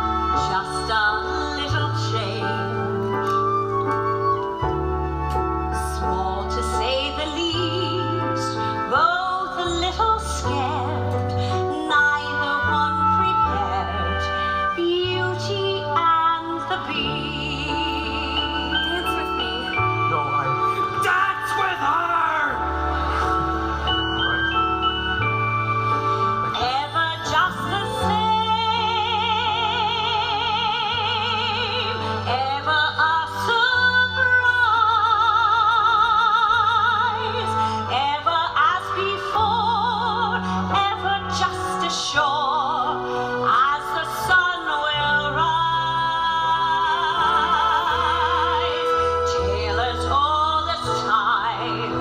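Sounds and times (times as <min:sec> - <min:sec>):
musical accompaniment: 0:00.0 - 0:52.0.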